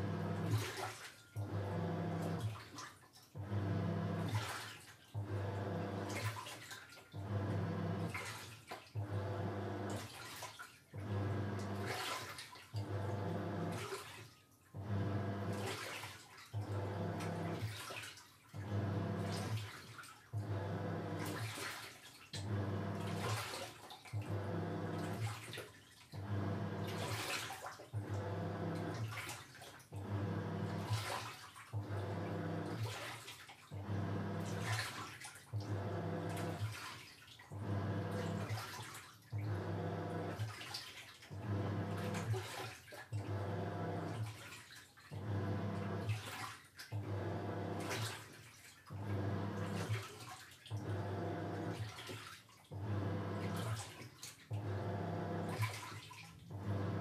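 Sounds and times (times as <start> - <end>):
washing machine motor humming: 0.0 - 2.6, 3.4 - 4.6, 5.2 - 6.5, 7.1 - 10.3, 10.9 - 14.0, 14.7 - 17.9, 18.5 - 21.8, 22.4 - 25.5, 26.2 - 36.9, 37.5 - 40.6, 41.2 - 44.5, 45.1 - 46.3, 46.9 - 48.2, 48.9 - 57.0
water sloshing in tub: 0.0 - 57.0.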